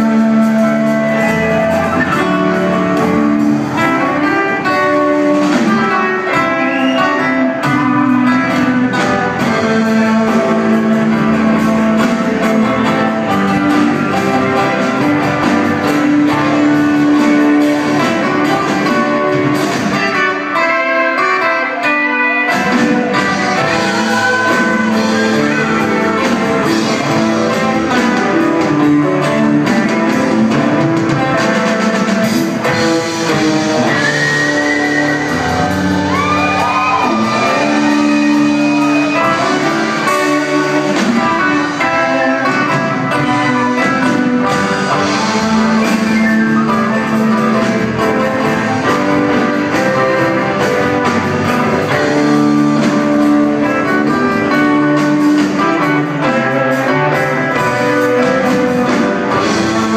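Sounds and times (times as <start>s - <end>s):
bending guitar notes: 0.0s - 59.9s
live band with guitars: 0.0s - 59.9s.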